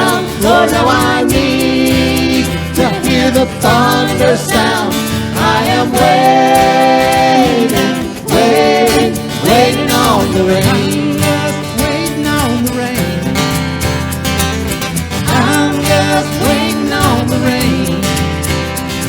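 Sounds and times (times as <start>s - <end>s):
country song with acoustic guitar: 0.0s - 19.0s.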